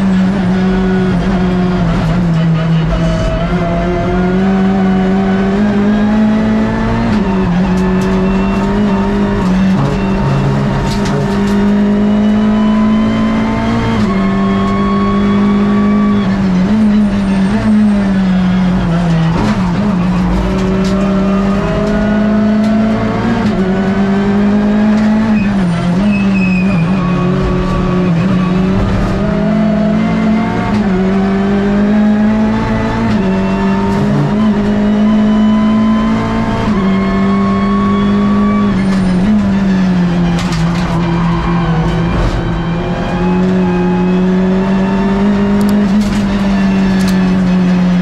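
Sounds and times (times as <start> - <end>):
race car engine revving: 0.0 - 48.0.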